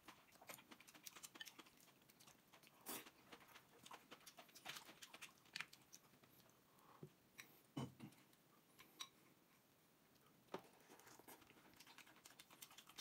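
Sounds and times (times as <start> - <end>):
chewing and lip smacks: 0.0 - 9.3, 10.1 - 13.0.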